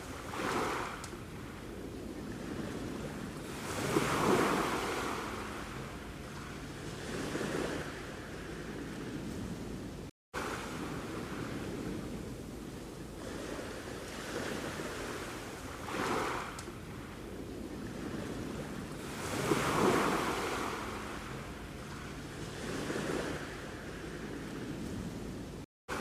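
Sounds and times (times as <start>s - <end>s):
sea waves washing in: 0.0s - 26.0s.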